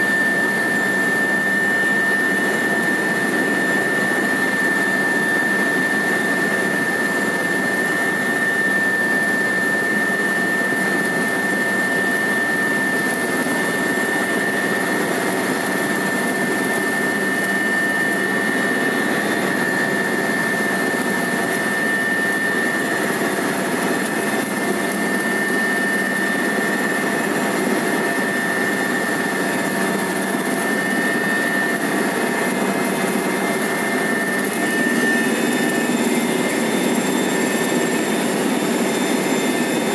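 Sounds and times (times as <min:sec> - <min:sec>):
helicopter engine and rotor noise: 0:00.0 - 0:39.9
high-pitched whine: 0:00.0 - 0:39.9.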